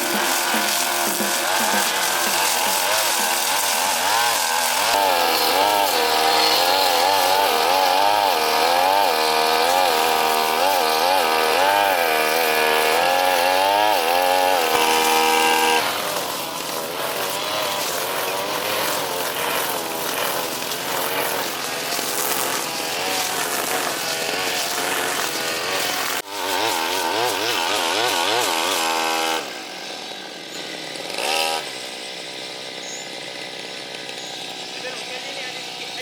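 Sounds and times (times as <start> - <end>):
brush cutter engine: 0.0 - 36.0.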